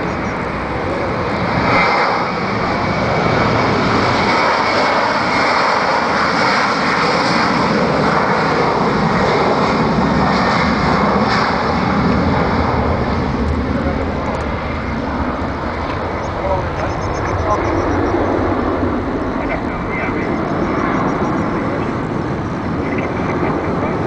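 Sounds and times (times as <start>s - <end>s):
jet engines at take-off: 0.0s - 24.0s.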